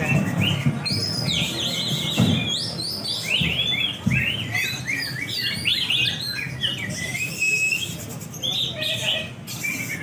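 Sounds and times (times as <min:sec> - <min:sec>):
songbirds chirping and whistling: 0:00.0 - 0:10.0.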